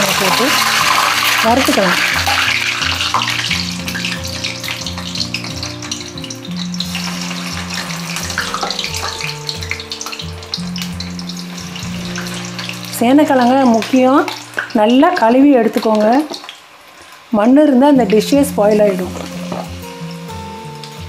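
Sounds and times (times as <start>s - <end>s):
background music: 0.0s - 16.4s, 17.3s - 21.0s
oil bubbling and crackling: 0.0s - 21.0s.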